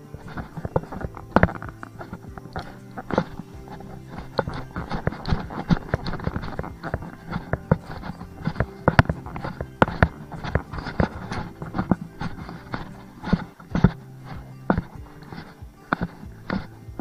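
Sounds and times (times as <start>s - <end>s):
footsteps crunching on trail: 0.0s - 17.0s
steady low hum: 0.0s - 17.0s.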